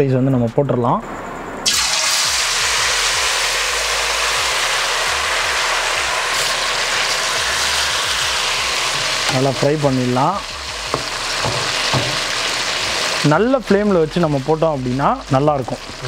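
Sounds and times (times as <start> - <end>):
deep-frying sizzle in hot oil: 1.6 - 16.0.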